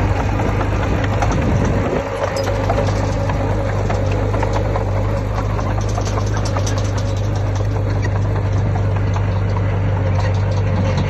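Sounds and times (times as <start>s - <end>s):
diesel engine running steadily: 0.0s - 11.0s
metal clanks and rattles: 0.0s - 11.0s.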